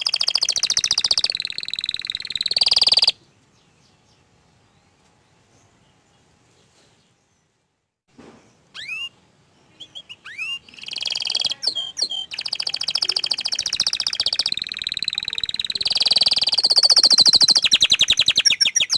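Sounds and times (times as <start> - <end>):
canary singing: 0.0 - 4.9, 8.5 - 18.9.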